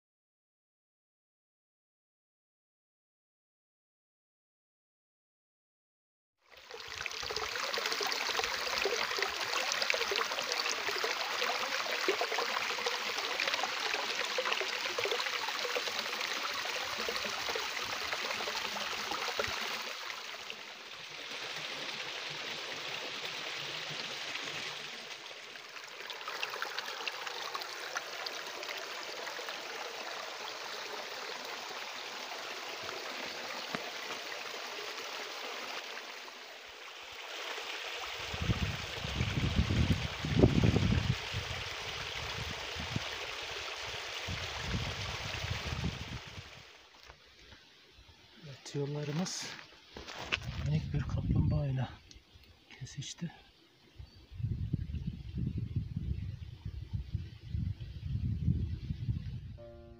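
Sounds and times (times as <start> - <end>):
stream trickling over rocks: 6.5 - 59.9.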